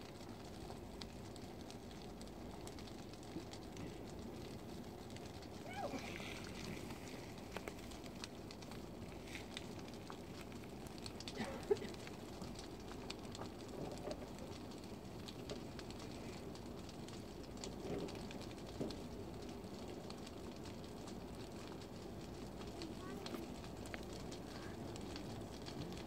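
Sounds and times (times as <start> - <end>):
light crackles and clicks: 0.0 - 26.0.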